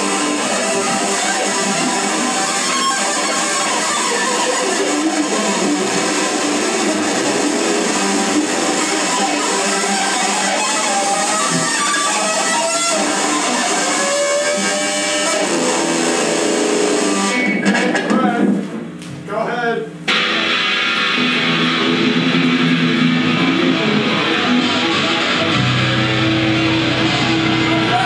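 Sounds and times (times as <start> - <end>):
electric guitars noise jam: 0.0 - 19.0, 20.0 - 28.0.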